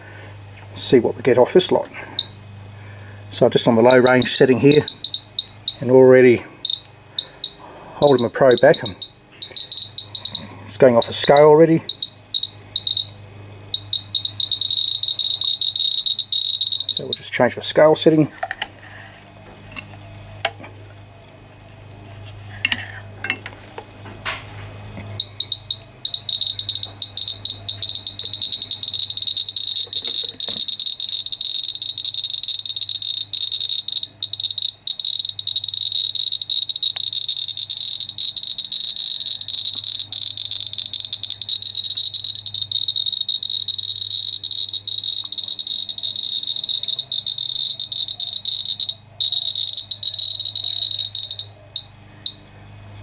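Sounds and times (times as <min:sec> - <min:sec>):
geiger counter crackling buzz: 0:00.0 - 0:18.1, 0:23.6 - 0:52.4.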